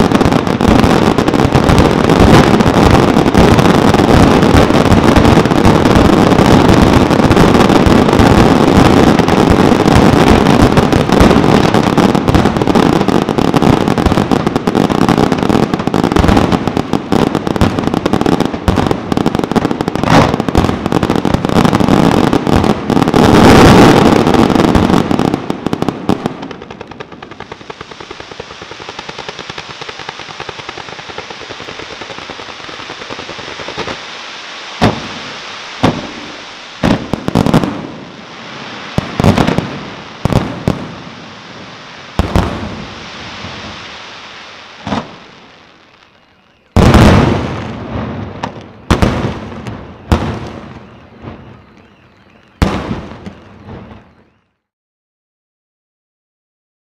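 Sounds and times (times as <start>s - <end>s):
steady hiss: 0.0s - 54.4s
fireworks bursts and bangs: 0.0s - 54.6s.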